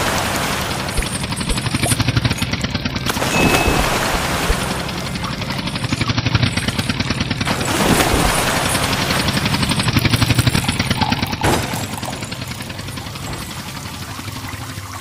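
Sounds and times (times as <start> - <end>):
tractor engine chugging: 0.0 - 15.0.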